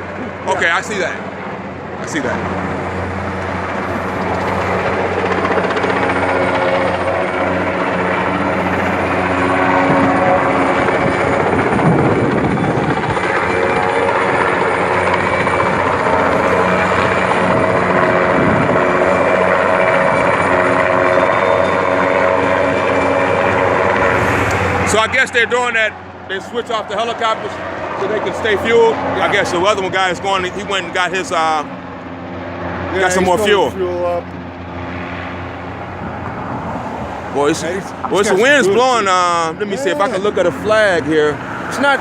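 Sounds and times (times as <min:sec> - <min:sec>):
helicopter rotor and turbine drone: 0:00.0 - 0:42.0.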